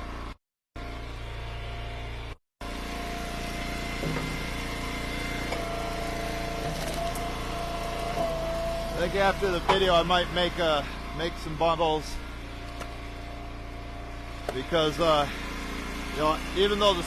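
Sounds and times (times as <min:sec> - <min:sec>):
wood splitter engine running: 0:00.0 - 0:17.0.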